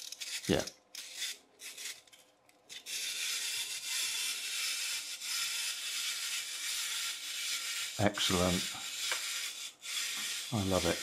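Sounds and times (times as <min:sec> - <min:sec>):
wind-up toy whirring: 0:00.0 - 0:11.0.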